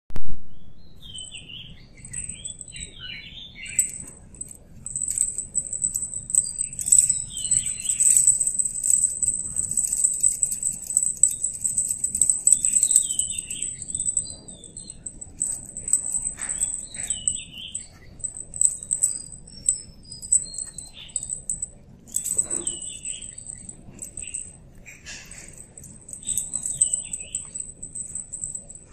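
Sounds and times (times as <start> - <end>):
birds chirping: 0.6 - 28.9
jingle bell jingling: 1.9 - 28.9.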